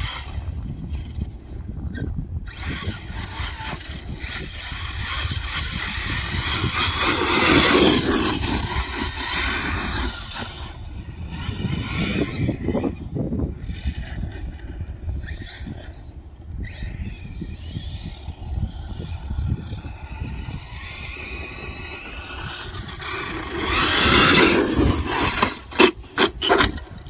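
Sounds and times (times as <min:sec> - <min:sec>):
toy truck electric motor whining: 0:02.5 - 0:16.0, 0:16.7 - 0:27.0.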